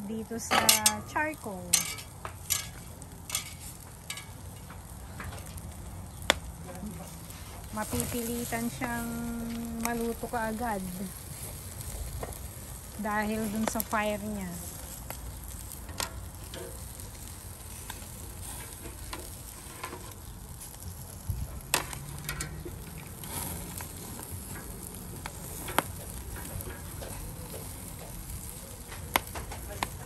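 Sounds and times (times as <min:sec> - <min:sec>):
charcoal crackling and popping: 0:00.0 - 0:30.0
fat sizzling on charcoal: 0:00.0 - 0:30.0.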